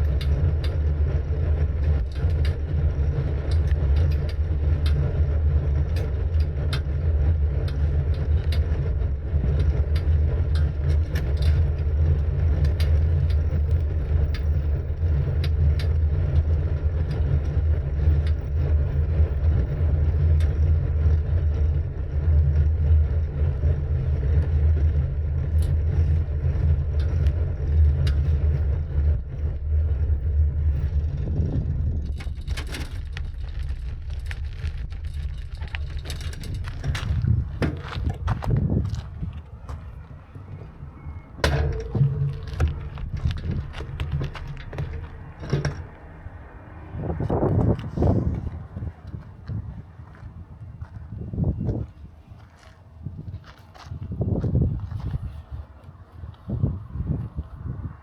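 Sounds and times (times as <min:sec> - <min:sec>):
bike clicks and rattles: 0:00.0 - 0:58.0
road vibration: 0:00.0 - 0:58.0
wind buffeting microphone: 0:00.0 - 0:58.0.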